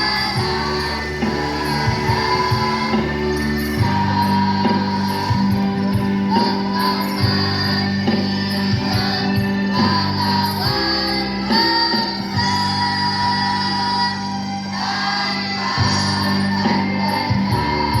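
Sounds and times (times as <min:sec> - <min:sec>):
girls choir singing: 0:00.0 - 0:18.0
musical accompaniment: 0:00.0 - 0:18.0.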